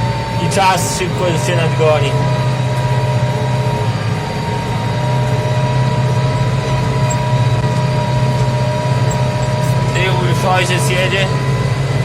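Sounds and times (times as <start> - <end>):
steady whine: 0.0 - 12.0
tractor diesel engine at full throttle: 0.0 - 12.0.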